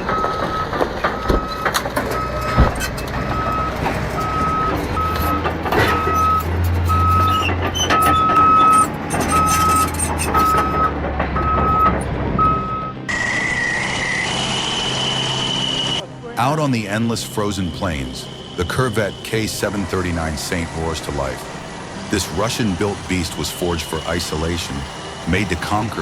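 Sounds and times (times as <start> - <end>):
diesel engine rumble: 0.0 - 26.0
engine with high whine: 0.0 - 26.0
reversing alarm beeping: 0.0 - 26.0.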